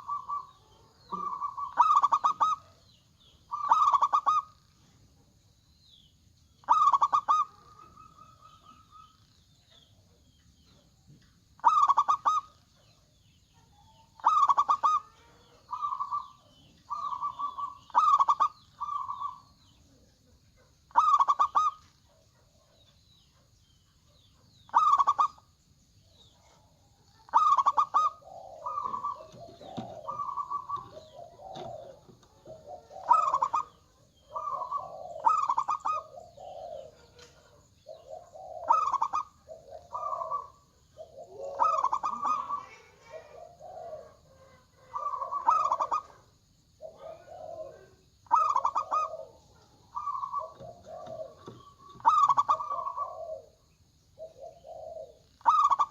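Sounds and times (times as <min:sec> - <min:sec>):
doves cooing: 0:00.0 - 0:05.1, 0:06.6 - 0:25.6, 0:26.2 - 0:55.9.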